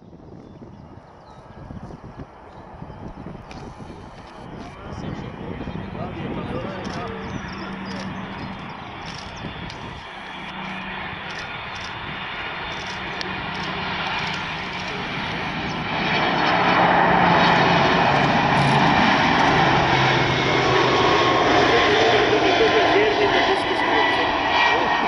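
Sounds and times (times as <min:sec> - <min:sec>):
jet engines on landing approach: 0:00.0 - 0:25.0.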